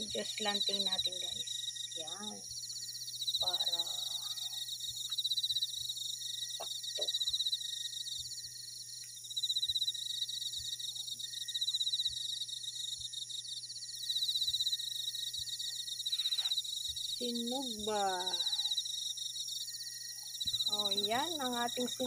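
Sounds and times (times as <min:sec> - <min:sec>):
crickets chirping: 0:00.0 - 0:22.0
high insect drone: 0:00.0 - 0:22.0.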